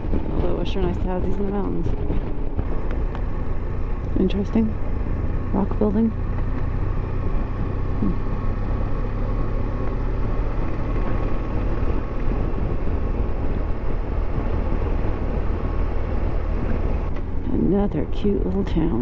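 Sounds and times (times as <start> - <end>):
motorcycle engine cruising: 0.0 - 19.0
wind and road noise: 0.0 - 19.0.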